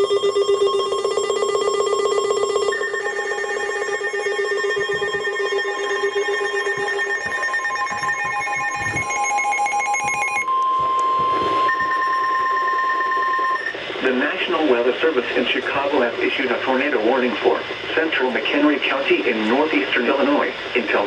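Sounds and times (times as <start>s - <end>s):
pulsing electronic alarm tones: 0.0s - 21.0s.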